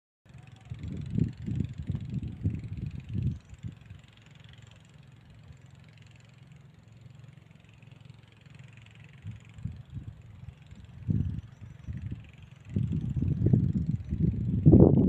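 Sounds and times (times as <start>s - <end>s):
faint low engine hum: 0.3s - 15.0s.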